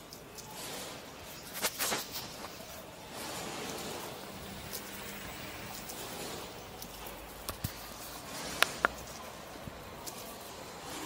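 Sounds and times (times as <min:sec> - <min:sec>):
street ambience hiss: 0:00.0 - 0:11.0.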